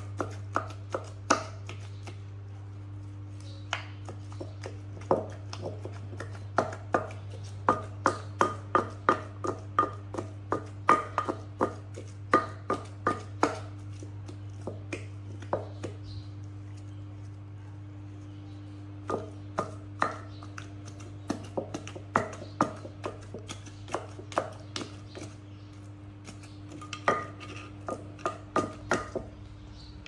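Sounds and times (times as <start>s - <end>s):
pestle pounding in mortar: 0.0s - 2.2s, 3.7s - 16.3s, 18.9s - 30.0s.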